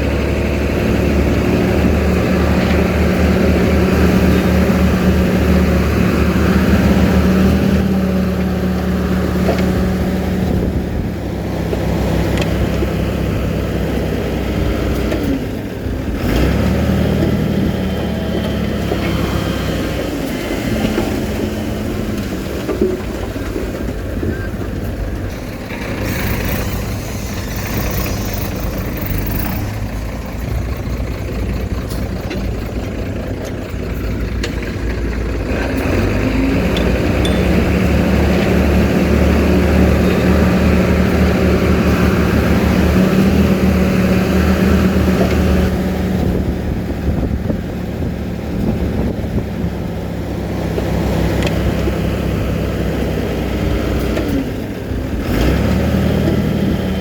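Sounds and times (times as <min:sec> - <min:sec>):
diesel machinery engine running: 0:00.0 - 0:57.0.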